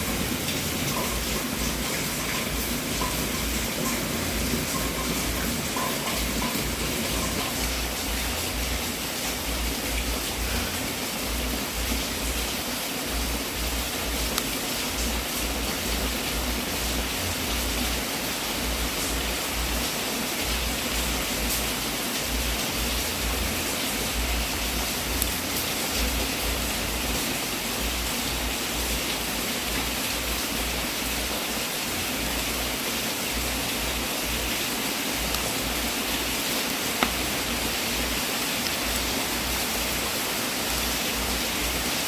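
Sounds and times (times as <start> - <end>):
wood fire crackling: 0.0 - 17.8, 20.4 - 30.8, 31.9 - 41.8.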